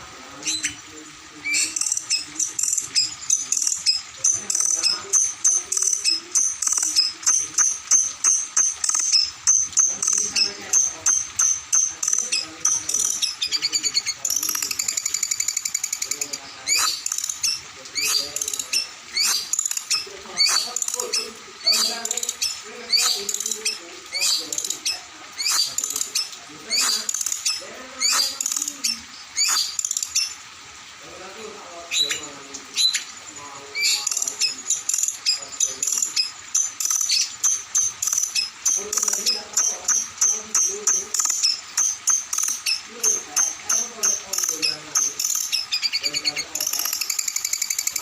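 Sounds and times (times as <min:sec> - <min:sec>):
bird chattering ticks: 0:00.4 - 0:30.6, 0:31.4 - 0:48.0
songbird singing high notes and trills: 0:00.4 - 0:30.6, 0:31.8 - 0:48.0.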